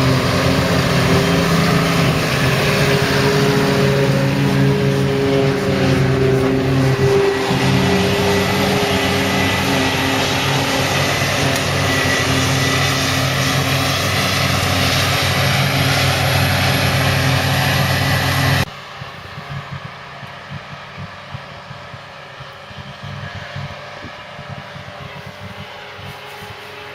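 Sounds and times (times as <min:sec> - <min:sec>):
diesel farm machinery running: 0:00.0 - 0:26.9
thin high whine: 0:00.0 - 0:26.9.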